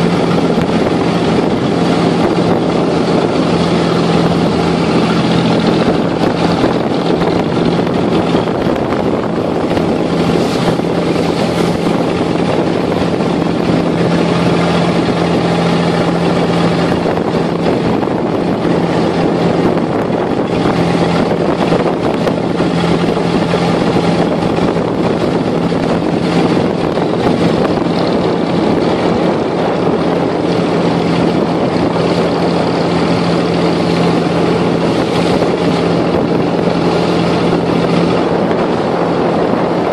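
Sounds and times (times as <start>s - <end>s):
boat diesel engine humming: 0.0s - 39.9s
water rushing along hull: 0.0s - 39.9s.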